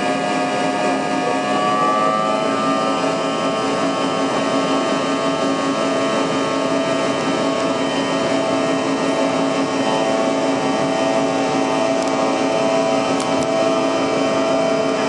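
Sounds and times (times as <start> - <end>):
jet engines heard from cabin: 0.0 - 15.0.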